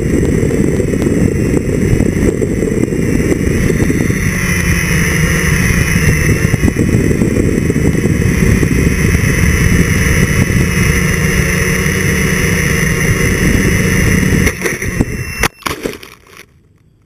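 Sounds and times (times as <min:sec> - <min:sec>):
quadcopter hitting a bush: 0:00.0 - 0:16.8
prop wash rumble: 0:00.0 - 0:17.0
quadcopter motors whining: 0:00.0 - 0:17.0.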